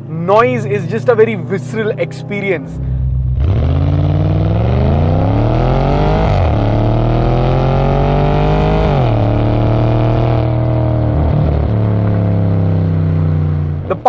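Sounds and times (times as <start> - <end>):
car accelerating through gears: 1.3 - 13.5.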